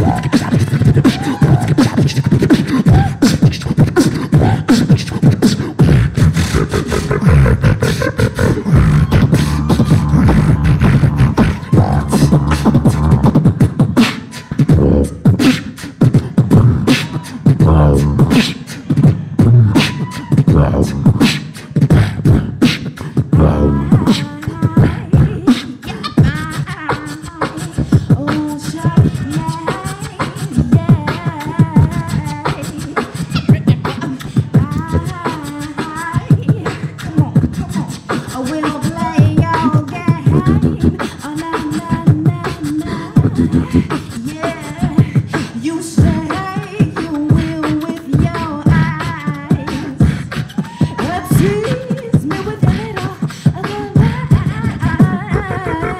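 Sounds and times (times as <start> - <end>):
beatboxing vocal drums: 0.0 - 55.9
vocal melody and bass line: 0.0 - 55.9.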